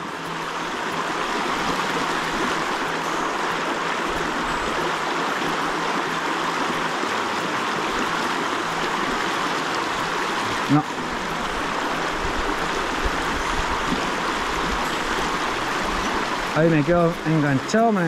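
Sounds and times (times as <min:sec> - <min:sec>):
stream running over stones: 0:00.0 - 0:18.0.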